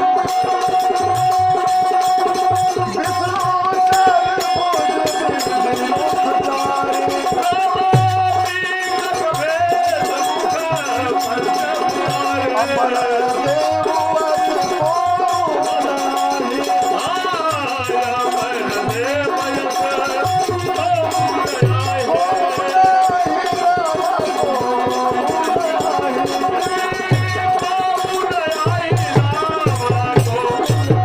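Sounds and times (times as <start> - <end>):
jingling percussion: 0.0 - 31.0.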